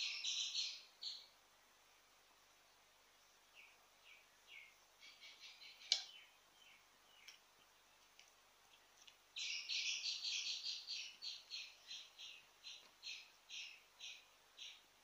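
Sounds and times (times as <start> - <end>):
bird chirping: 0.0 - 1.4, 3.5 - 15.0.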